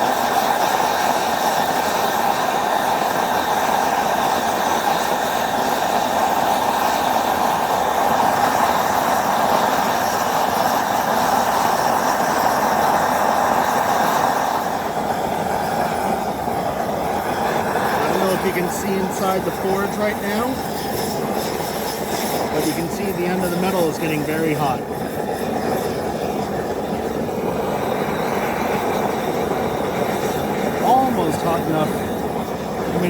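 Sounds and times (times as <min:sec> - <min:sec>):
gas forge burner rushing: 0:00.0 - 0:33.0.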